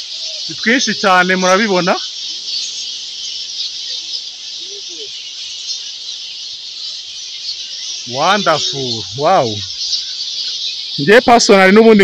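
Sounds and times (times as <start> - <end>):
fruit bats chattering and squeaking: 0.0 - 12.0.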